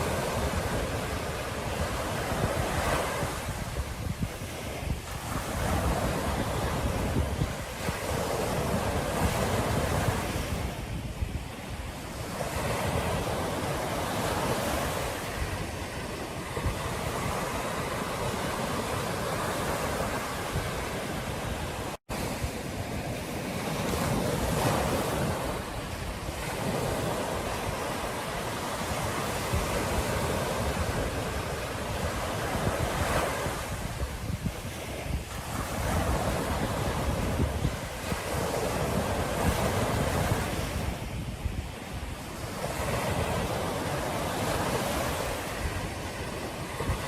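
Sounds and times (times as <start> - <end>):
ocean surf washing onto beach: 0.0 - 47.0
wind rumbling on microphone: 0.0 - 47.0.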